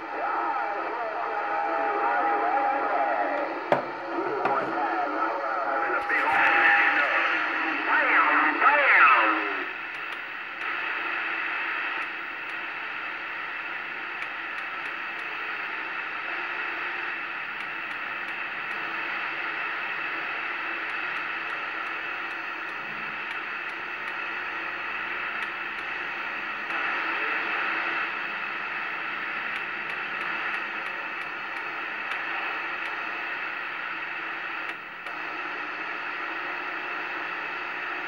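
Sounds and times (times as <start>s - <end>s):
radio static hiss: 0.0s - 38.0s.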